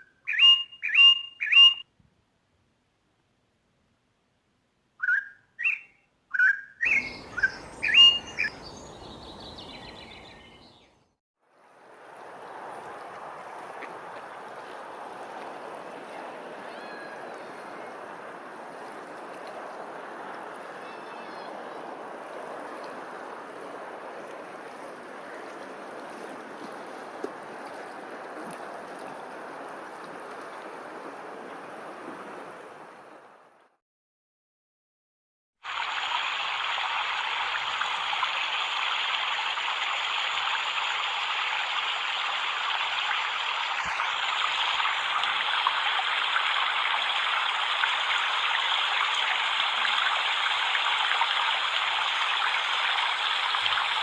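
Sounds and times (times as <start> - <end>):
stream water rushing: 6.8 - 10.6, 11.4 - 33.6, 35.6 - 54.0.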